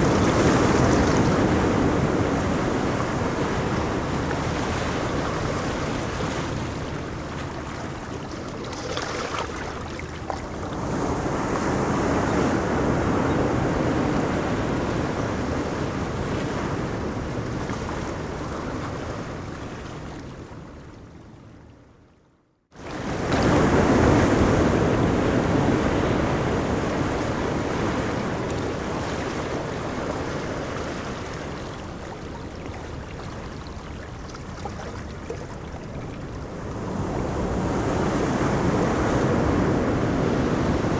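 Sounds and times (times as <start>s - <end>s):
ocean surf washing onto beach: 0.0s - 19.5s, 22.8s - 40.9s.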